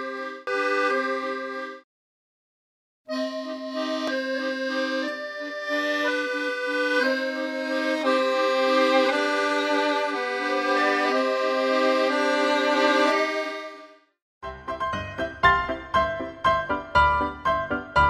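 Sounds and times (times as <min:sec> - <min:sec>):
accordion music: 0:00.0 - 0:01.9, 0:03.1 - 0:18.0.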